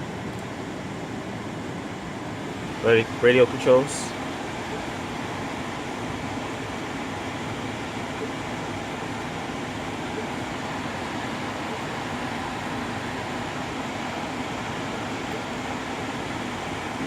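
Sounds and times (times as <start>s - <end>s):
climate control fan air rush: 0.0s - 17.0s
low engine hum: 0.0s - 17.0s.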